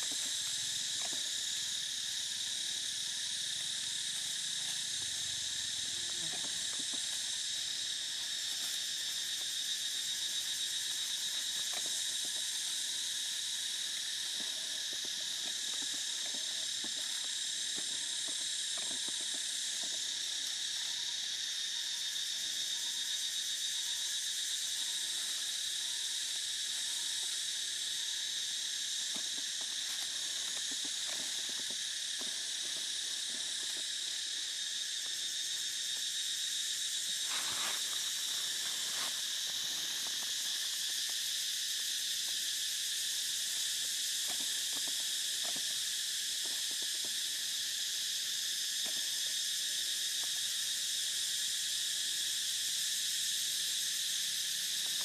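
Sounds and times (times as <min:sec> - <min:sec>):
forest insects buzzing: 0:00.0 - 0:55.0.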